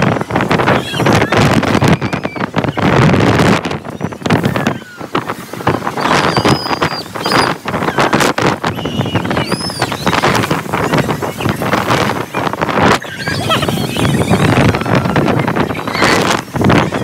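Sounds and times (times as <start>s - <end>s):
wind buffeting microphone: 0.0s - 17.0s
high-pitched squeals: 0.4s - 17.0s.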